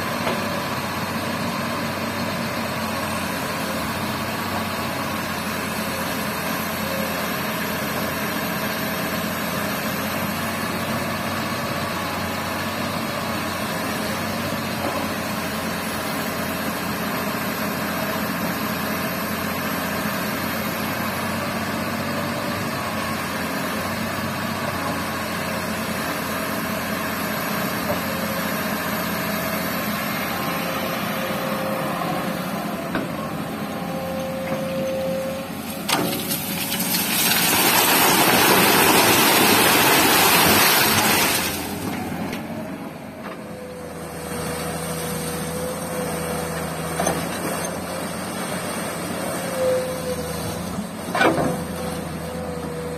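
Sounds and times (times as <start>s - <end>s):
excavator diesel engine humming: 0.0s - 52.9s.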